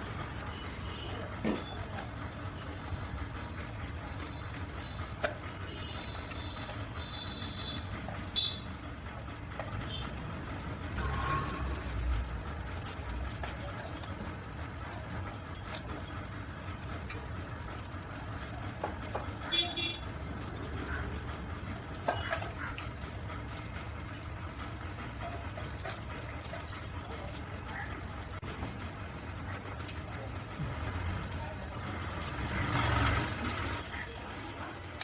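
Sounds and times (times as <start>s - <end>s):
fan parts clicking and knocking: 0.0s - 35.0s.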